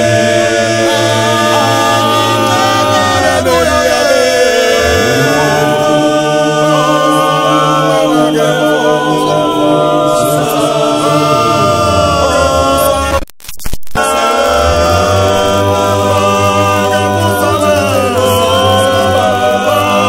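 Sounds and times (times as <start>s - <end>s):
choir singing a cappella gospel: 0.0s - 13.2s, 14.0s - 20.0s.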